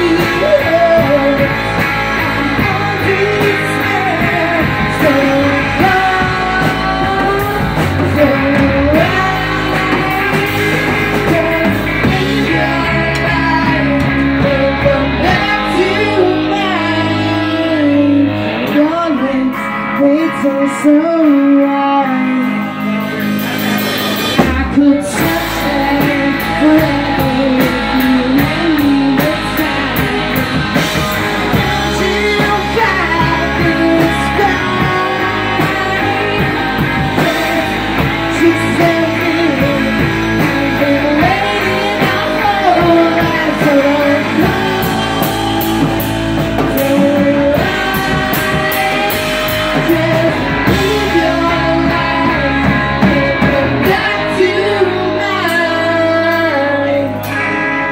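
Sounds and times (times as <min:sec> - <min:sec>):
drum kit: 0:00.0 - 0:57.9
electric bass: 0:00.0 - 0:57.9
electric guitars: 0:00.0 - 0:57.9
woman singing lead: 0:00.0 - 0:57.9.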